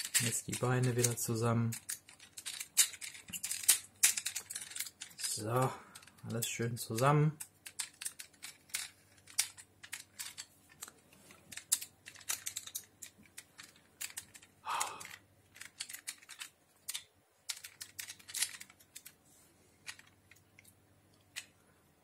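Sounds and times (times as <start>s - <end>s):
clicks of toy parts handled: 0.0s - 19.2s.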